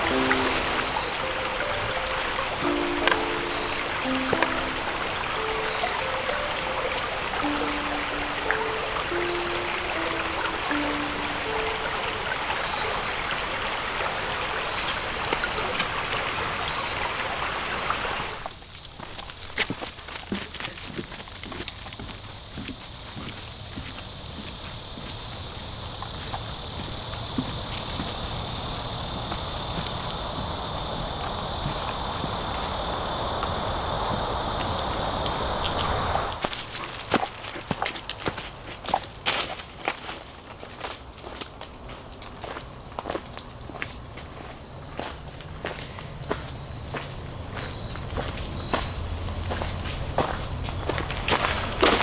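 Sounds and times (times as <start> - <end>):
footsteps crunching on trail: 0.0 - 13.0, 18.4 - 52.0
insects droning: 0.0 - 52.0.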